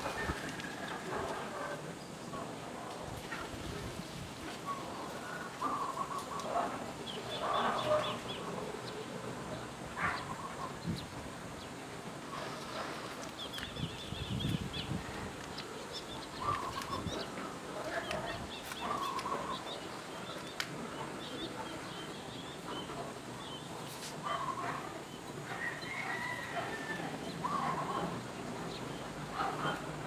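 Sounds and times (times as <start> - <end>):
outdoor background noise: 0.0 - 30.0
birds chirping: 4.6 - 30.0.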